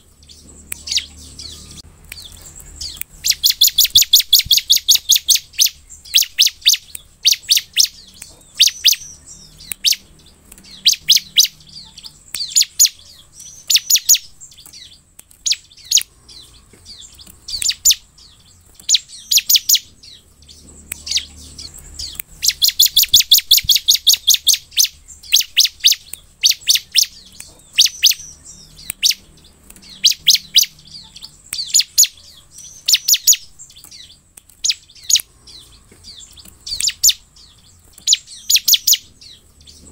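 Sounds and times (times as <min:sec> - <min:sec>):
bird calling with sharp high chips: 0:00.0 - 0:39.9.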